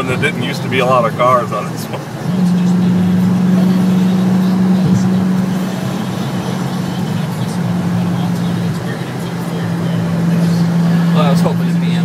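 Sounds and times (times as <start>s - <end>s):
car engine and exhaust drone: 0.0s - 12.0s
road noise: 0.0s - 12.0s.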